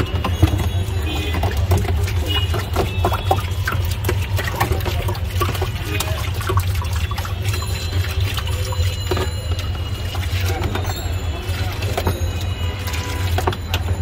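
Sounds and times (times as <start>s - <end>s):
ladle stirring and sloshing sherbet: 0.0s - 14.0s
splashes and clinks: 0.0s - 14.0s.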